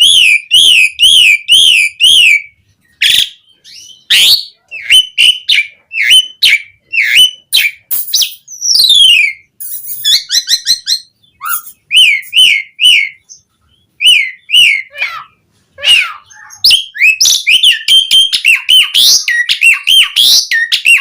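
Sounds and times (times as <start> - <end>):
starling singing whistles and chirps: 0.0 - 21.0.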